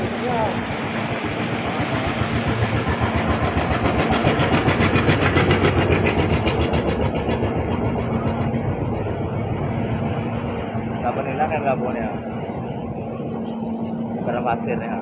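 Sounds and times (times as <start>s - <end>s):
speedboat engine pulsing: 0.0s - 15.0s.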